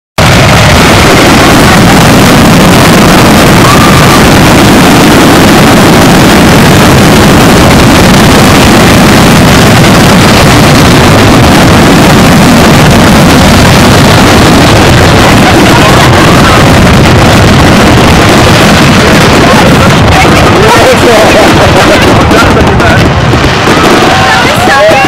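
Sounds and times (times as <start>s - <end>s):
fireworks roaring bangs: 0.2s - 25.0s.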